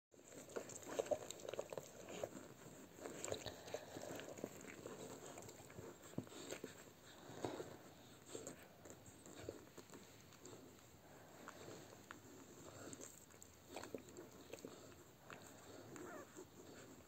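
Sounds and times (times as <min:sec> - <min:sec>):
puppies suckling: 0:00.2 - 0:17.0.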